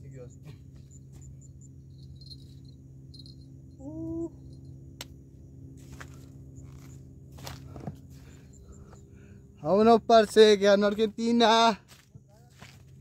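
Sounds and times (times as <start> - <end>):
insects chirping: 0.0 - 13.0
steady low hum: 0.0 - 13.0.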